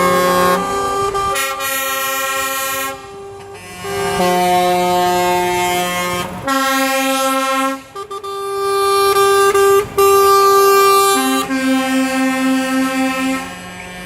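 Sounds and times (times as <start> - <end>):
truck air horn blasts: 0.0 - 14.0.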